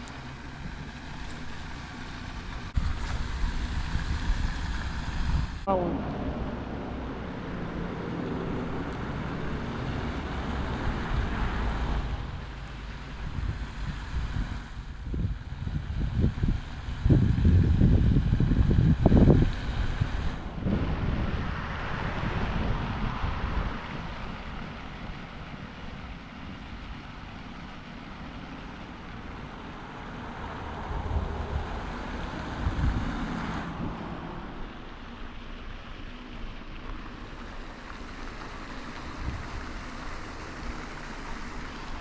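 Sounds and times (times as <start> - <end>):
wind buffeting microphone: 0.0 - 27.5, 29.0 - 34.8, 39.0 - 41.2.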